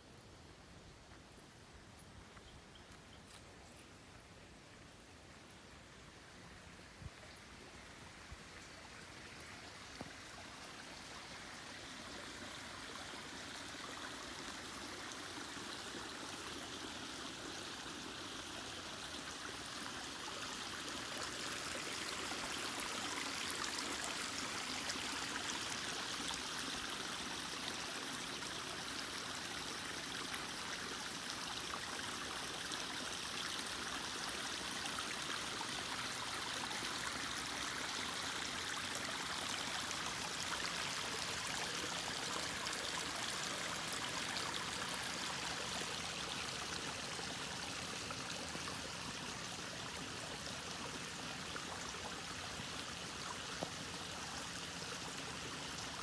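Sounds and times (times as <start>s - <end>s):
creek water splashing over rocks: 6.6s - 56.0s.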